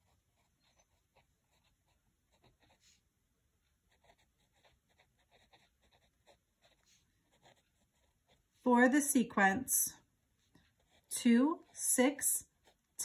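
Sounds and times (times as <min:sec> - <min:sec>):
pencil scratching on paper: 0:00.0 - 0:03.0, 0:03.6 - 0:09.0, 0:10.3 - 0:13.0.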